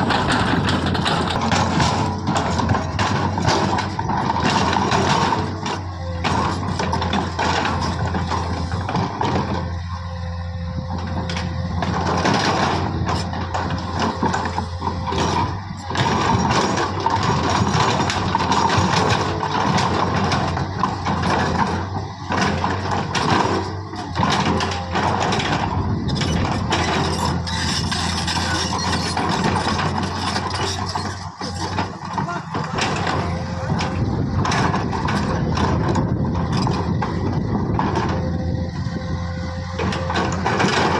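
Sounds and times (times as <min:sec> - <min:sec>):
metallic clanking and rattling: 0:00.0 - 0:10.1, 0:10.8 - 0:40.9
diesel machine hum: 0:00.0 - 0:40.9.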